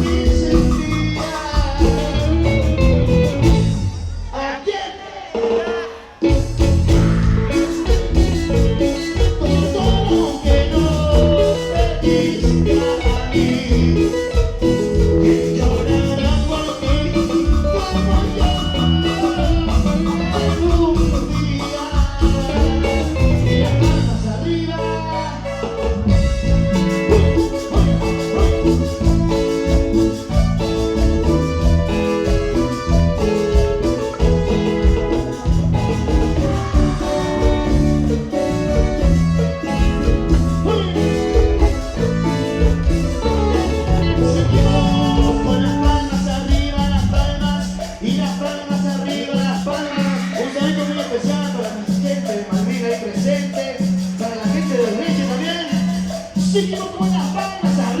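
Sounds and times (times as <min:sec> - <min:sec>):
live band playing dance music: 0:00.0 - 0:58.0.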